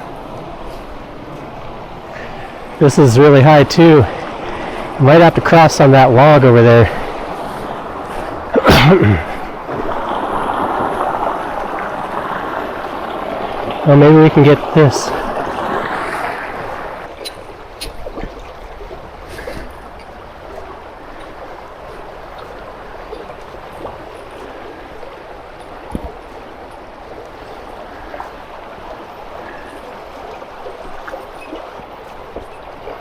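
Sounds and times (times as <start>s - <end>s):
rushing creek water: 0.0s - 33.0s.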